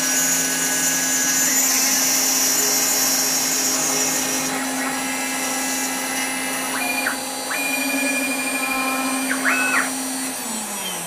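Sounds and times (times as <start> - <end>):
spindle whine: 0.0 - 11.0
stepper motors whining: 0.0 - 11.0.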